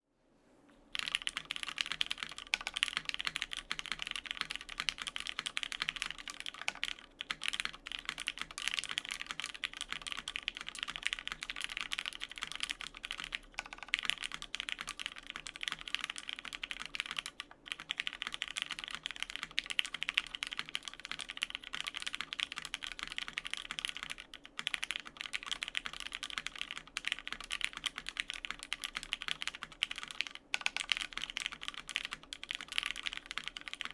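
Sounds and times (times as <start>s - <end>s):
mechanical keyboard typing: 0.9s - 33.9s.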